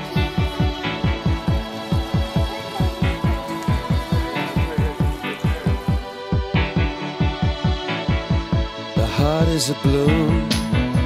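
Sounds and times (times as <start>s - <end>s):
electronic beat: 0.0s - 11.0s
low kick drum: 0.2s - 11.0s.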